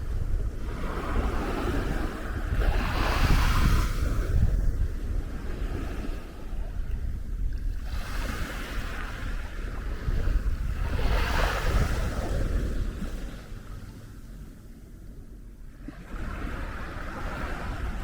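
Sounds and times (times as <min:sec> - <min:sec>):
waves washing on sand: 0:00.0 - 0:14.4, 0:15.8 - 0:18.0
wind buffeting microphone: 0:00.0 - 0:18.0.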